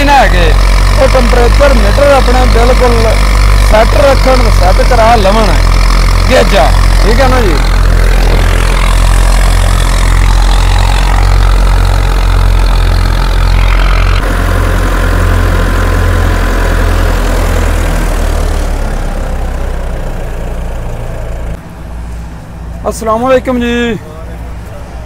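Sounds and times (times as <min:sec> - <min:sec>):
thresher mechanical hum: 0:00.0 - 0:25.0
tractor diesel engine running: 0:00.0 - 0:25.0.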